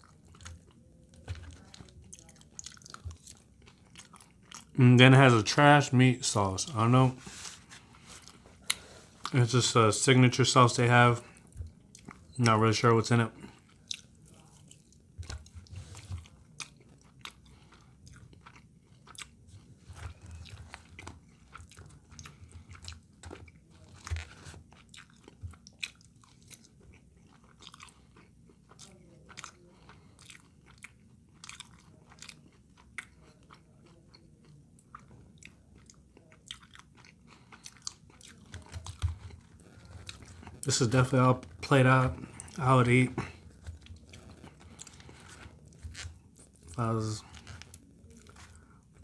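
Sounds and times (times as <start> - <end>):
person chewing food: 0.0 - 5.6, 6.3 - 9.4, 11.2 - 12.6, 13.2 - 49.0.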